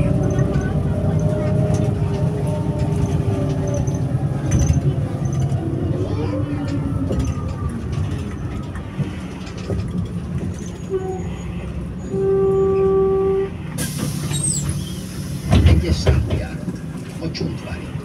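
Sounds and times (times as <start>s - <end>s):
bus diesel engine idling: 0.0s - 18.0s.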